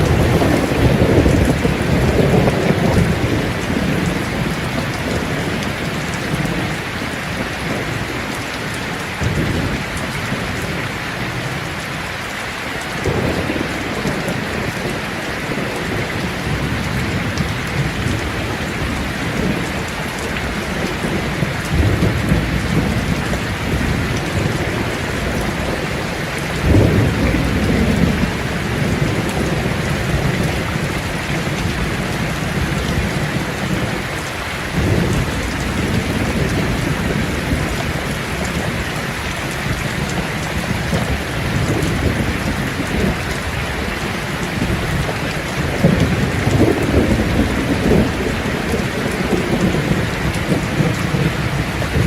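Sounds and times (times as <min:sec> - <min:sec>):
thunder rumbling: 0:00.0 - 0:12.0, 0:12.8 - 0:52.0
steady rain: 0:00.0 - 0:52.0.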